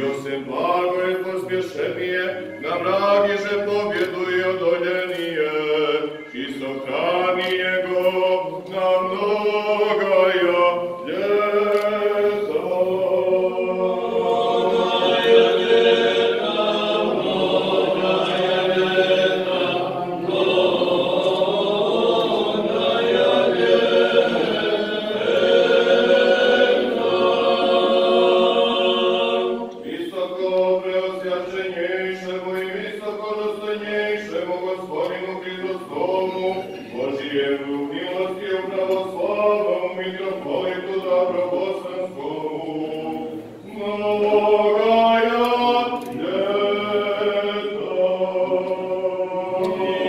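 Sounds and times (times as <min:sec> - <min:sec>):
voices chanting in harmony: 0:00.0 - 0:50.0.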